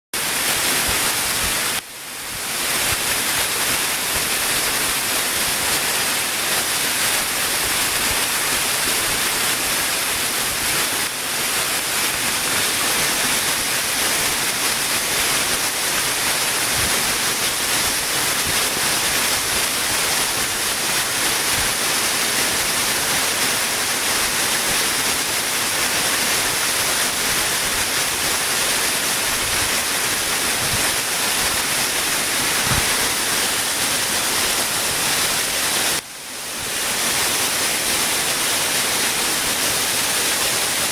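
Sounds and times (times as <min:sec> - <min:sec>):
waterfall roaring: 0:00.2 - 0:40.9.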